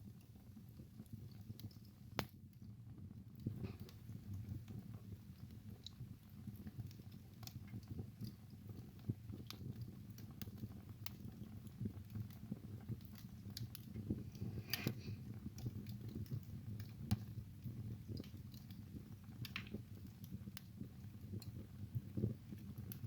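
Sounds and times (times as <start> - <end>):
flames rumbling: 0.0 - 23.0
wood fire crackling and popping: 0.0 - 23.0.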